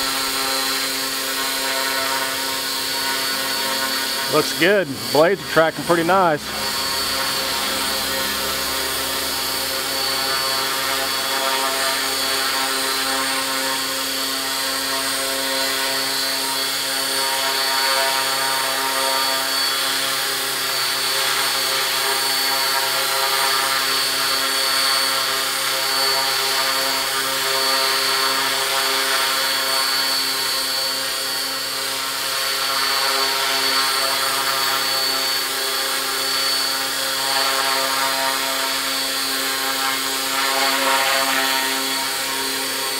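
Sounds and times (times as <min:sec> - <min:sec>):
rc helicopter rotor hum and whine: 0:00.0 - 0:42.9.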